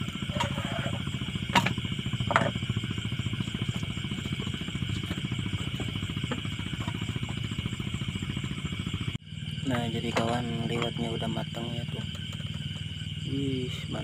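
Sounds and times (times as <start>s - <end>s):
gas stove burning hiss: 0.0s - 14.0s.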